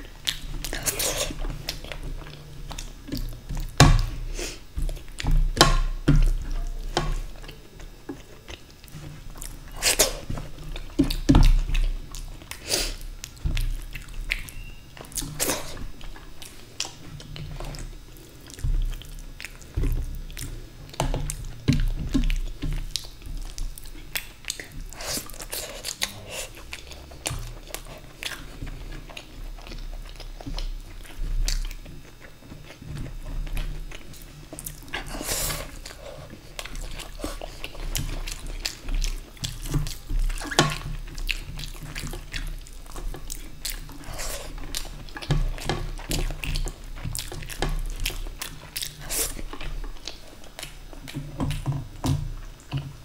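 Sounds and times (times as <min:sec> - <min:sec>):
chewing and biting food: 0:00.0 - 0:53.0.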